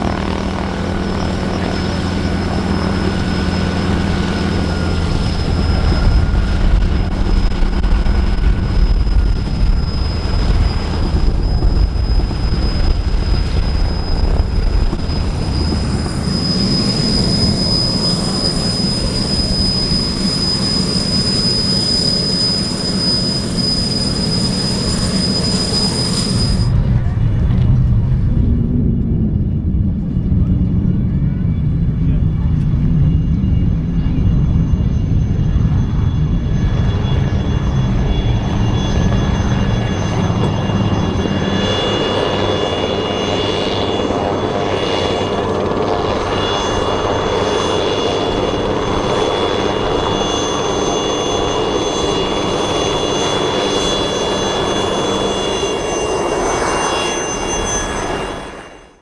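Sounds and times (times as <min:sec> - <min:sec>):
high-pitched turbine whine: 0:00.0 - 0:59.0
radial aircraft engine rumbling: 0:00.0 - 0:59.0.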